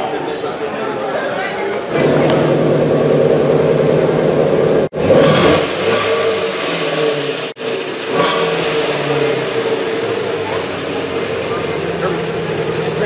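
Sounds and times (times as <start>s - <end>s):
car engine revving: 1.9s - 13.0s.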